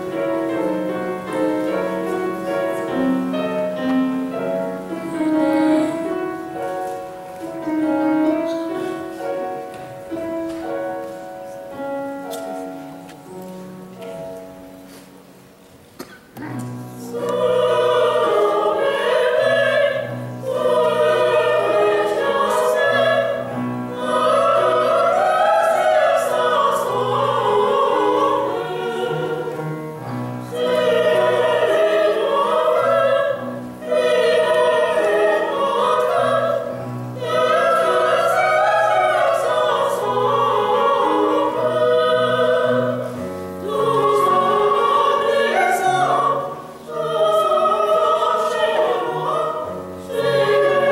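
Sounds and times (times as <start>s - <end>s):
women singing opera: 0.1s - 7.0s, 16.9s - 50.9s.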